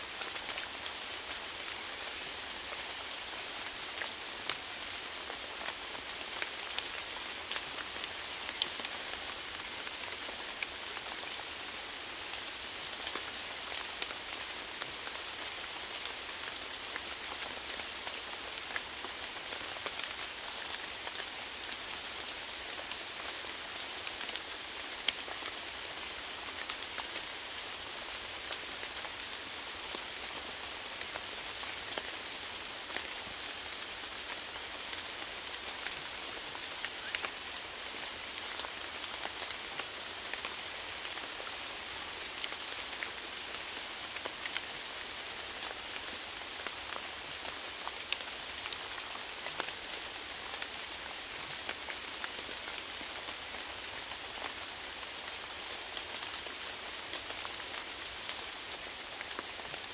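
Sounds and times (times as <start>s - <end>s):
rain pattering: 0.1s - 59.9s.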